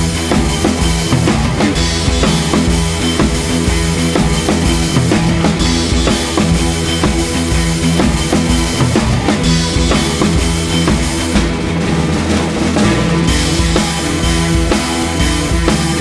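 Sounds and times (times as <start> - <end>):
drum-kit beat: 0.0 - 16.0
sustained bass and instrument notes: 0.0 - 16.0.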